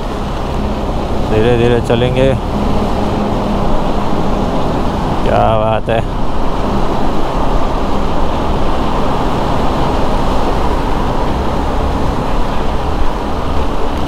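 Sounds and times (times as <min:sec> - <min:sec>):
tunnel traffic rumble: 0:00.0 - 0:14.0.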